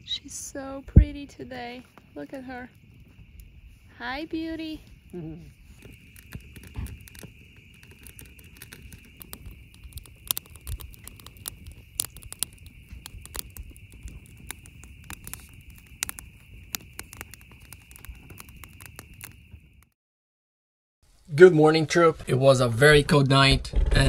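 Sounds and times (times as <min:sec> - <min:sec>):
wood fire crackling and popping: 0:00.1 - 0:20.0.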